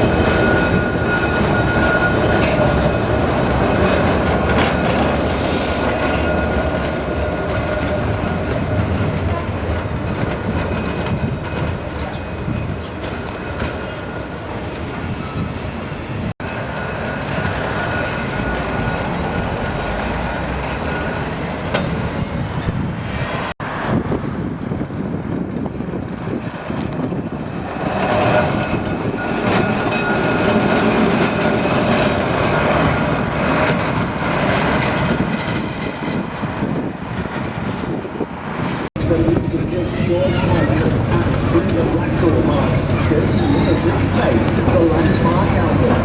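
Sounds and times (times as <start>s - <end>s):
tram running on track: 0.0s - 46.0s.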